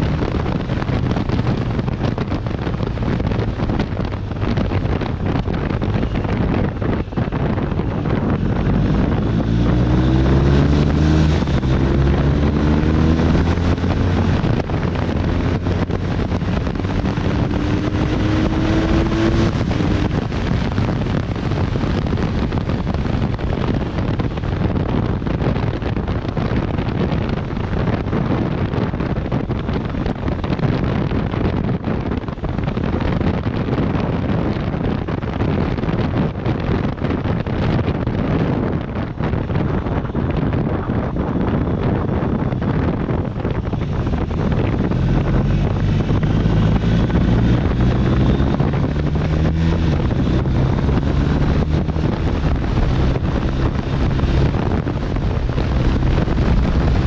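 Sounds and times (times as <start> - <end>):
motorcycle engine accelerating: 0.0 - 57.0
wind noise on microphone: 0.0 - 57.0.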